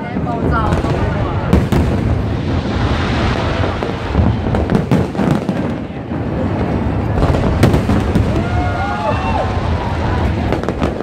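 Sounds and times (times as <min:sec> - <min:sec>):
fireworks booms: 0:00.0 - 0:11.0
fireworks crackling: 0:00.0 - 0:11.0.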